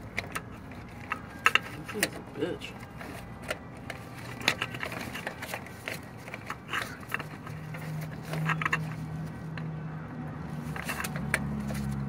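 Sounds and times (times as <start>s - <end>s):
plastic housing scrapes and clicks: 0.0s - 9.7s, 10.6s - 12.0s.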